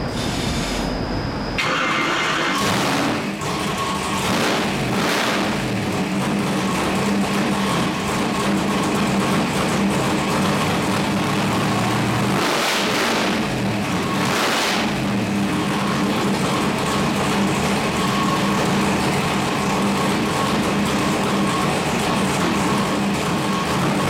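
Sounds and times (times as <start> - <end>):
engine revving bursts: 1.6 - 24.0
engine running on dynamometer: 1.6 - 24.0.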